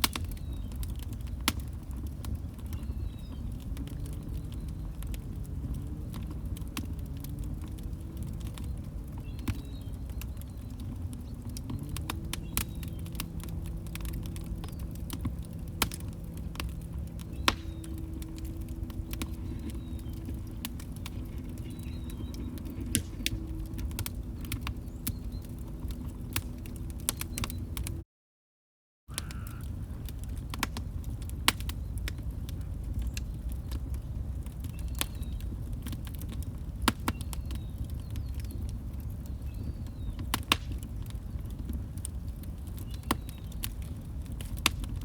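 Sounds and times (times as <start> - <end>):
log fire crackling: 0.0 - 28.0, 29.1 - 45.0.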